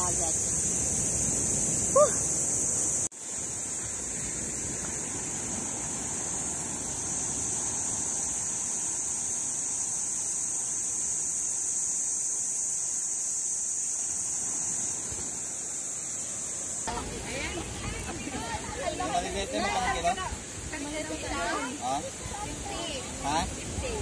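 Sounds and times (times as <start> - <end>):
waves washing on beach: 0.0 - 11.6, 14.1 - 24.0
high-pitched hiss: 0.0 - 24.0.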